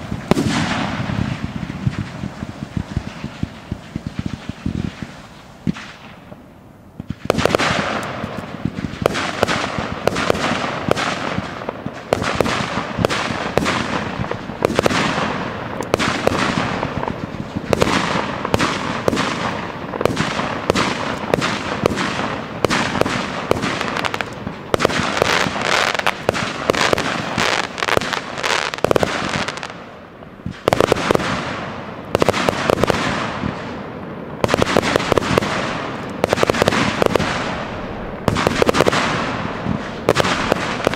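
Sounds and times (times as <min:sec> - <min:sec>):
fireworks bursts and bangs: 0:00.0 - 0:06.4, 0:07.0 - 0:40.9.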